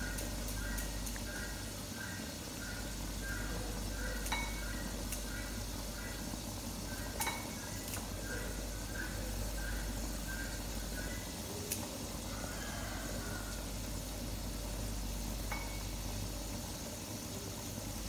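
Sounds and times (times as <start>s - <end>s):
soup simmering in a pot: 0.0s - 18.0s.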